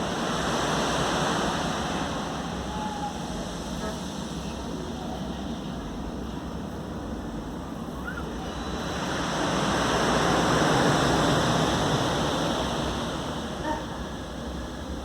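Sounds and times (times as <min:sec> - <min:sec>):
ocean wave washing: 0:00.0 - 0:15.0
rush of water: 0:00.0 - 0:15.0.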